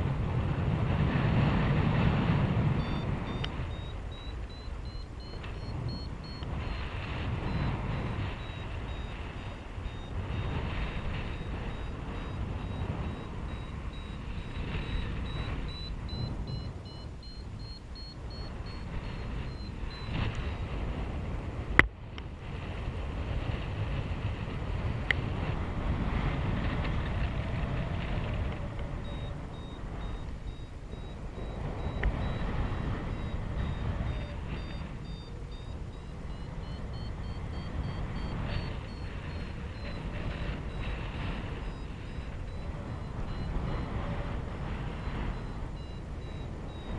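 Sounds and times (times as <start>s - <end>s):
variometer high beeping tone: 0.0s - 21.3s, 23.2s - 46.9s
wind rushing over microphone: 0.0s - 46.9s.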